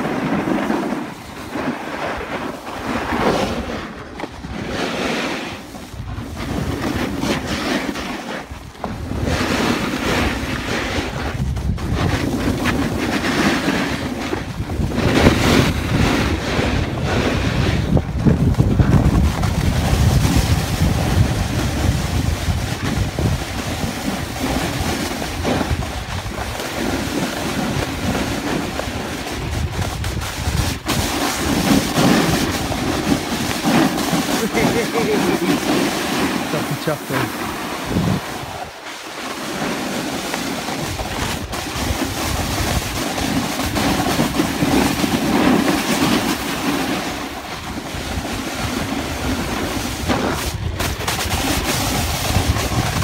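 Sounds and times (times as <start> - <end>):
snowboard edge scraping snow: 0.0 - 53.0
wind rushing over microphone: 0.0 - 53.0.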